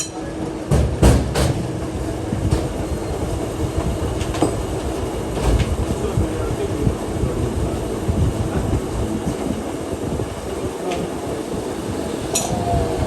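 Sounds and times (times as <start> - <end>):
metal lathe humming: 2.1 - 13.0.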